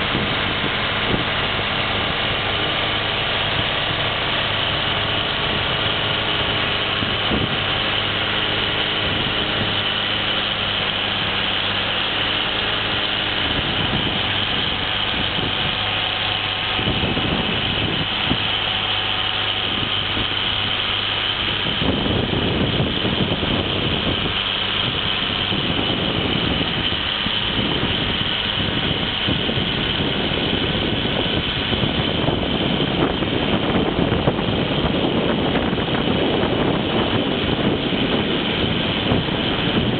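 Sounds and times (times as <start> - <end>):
snowblower rushing noise: 0.0 - 39.9
tractor diesel engine running: 0.0 - 39.9.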